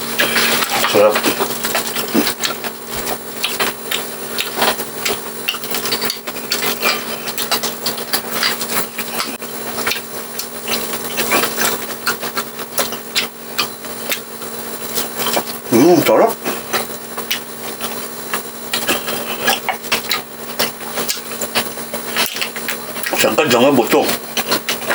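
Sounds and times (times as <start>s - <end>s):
chewing crunchy fried food: 0.0s - 24.9s.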